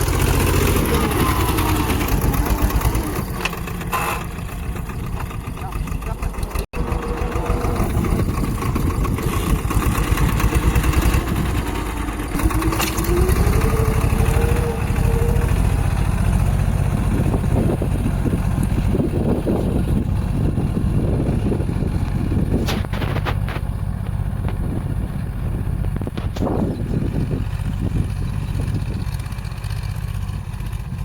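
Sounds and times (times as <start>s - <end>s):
tractor diesel engine chugging: 0.0s - 31.0s.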